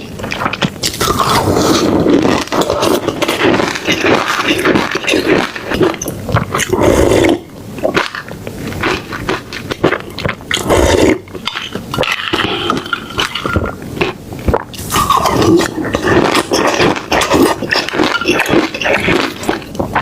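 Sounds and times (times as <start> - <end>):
chewing and biting food: 0.2 - 20.0.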